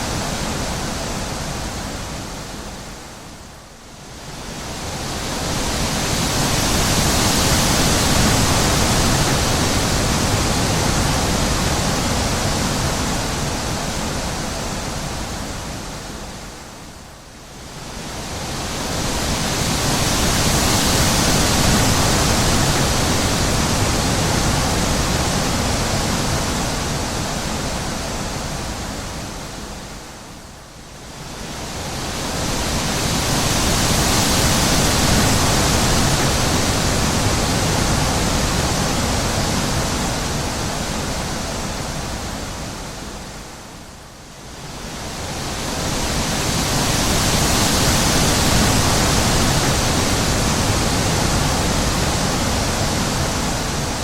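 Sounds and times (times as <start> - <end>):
wind blowing in gusts: 0.0 - 54.0.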